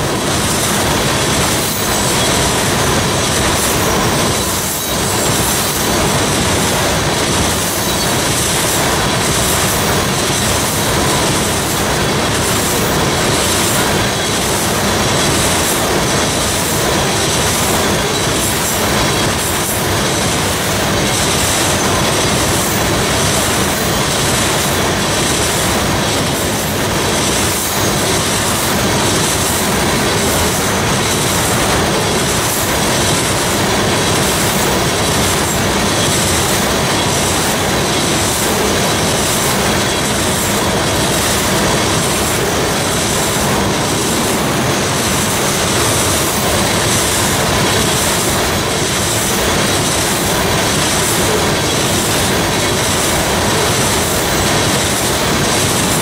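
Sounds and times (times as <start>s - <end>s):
clickety-clack over rail joints: 0.0s - 56.0s
freight train rolling past: 0.0s - 56.0s.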